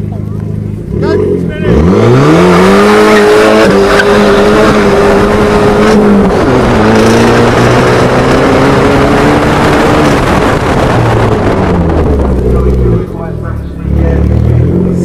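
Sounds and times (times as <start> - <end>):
car engine revving uphill: 0.0 - 15.0.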